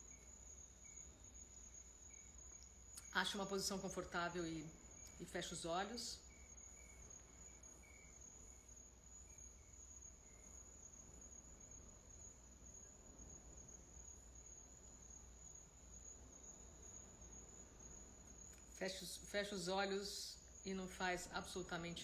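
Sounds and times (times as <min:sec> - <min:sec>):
faint high-pitched whine: 0:00.0 - 0:22.0.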